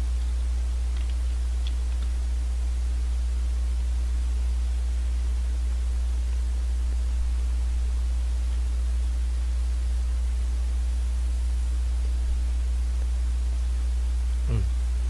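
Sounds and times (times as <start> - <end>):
low electrical hum: 0.0 - 15.0
microphone hiss: 0.0 - 15.0.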